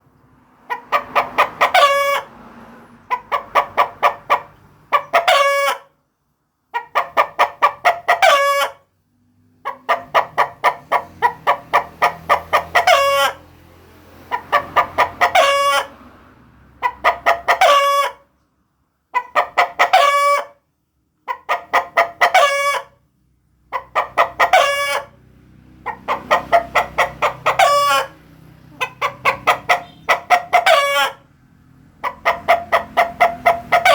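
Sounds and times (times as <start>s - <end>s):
chicken cackling: 0.4s - 6.0s, 6.7s - 9.0s, 9.6s - 18.4s, 19.1s - 33.9s.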